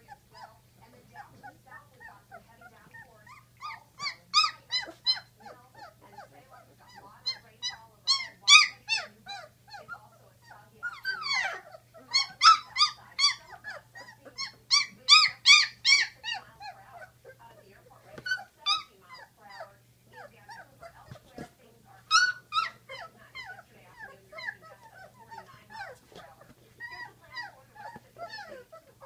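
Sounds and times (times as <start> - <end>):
puppies whining and squealing: 0.0 - 29.0.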